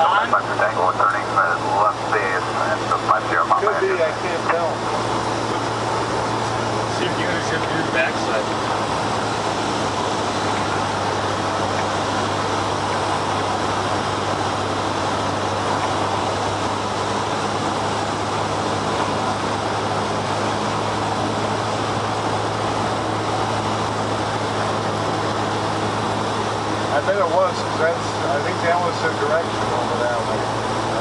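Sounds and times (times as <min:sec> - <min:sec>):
light airplane engine droning: 0:00.0 - 0:31.0.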